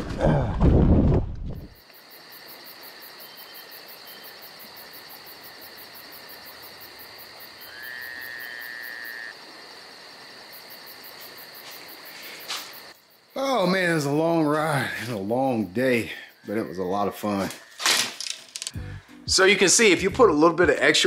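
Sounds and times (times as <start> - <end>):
night insects trilling: 1.7 - 20.0.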